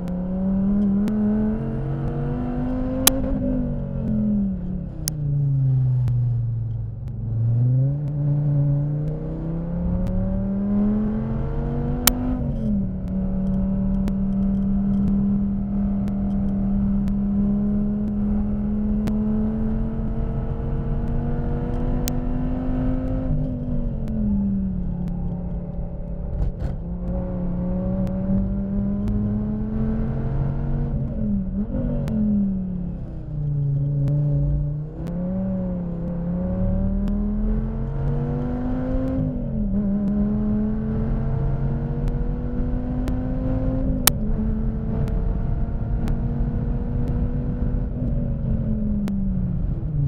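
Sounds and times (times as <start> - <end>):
car engine revving through gears: 0.0 - 50.0.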